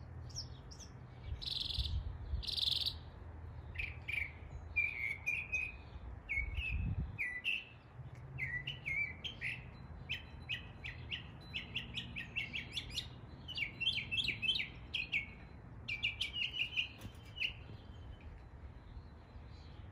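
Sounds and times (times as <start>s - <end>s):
mockingbird singing varied chirps: 0.0s - 19.9s.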